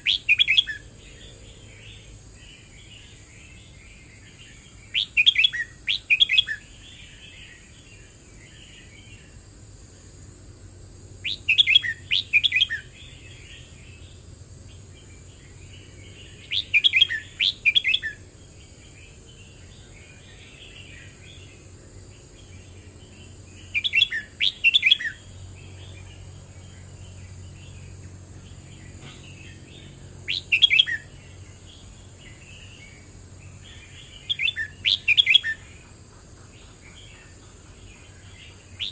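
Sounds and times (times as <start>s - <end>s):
bird singing warbled phrases: 0.0s - 9.5s, 11.2s - 38.9s
faint bird twittering: 0.0s - 10.2s, 11.2s - 38.9s.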